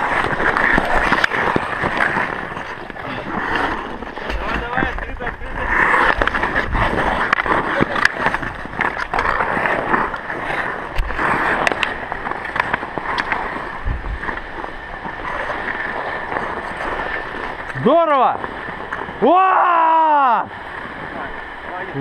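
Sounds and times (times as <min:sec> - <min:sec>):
hockey sticks clacking: 0:00.0 - 0:17.8
skate blades scraping on ice: 0:00.0 - 0:19.4.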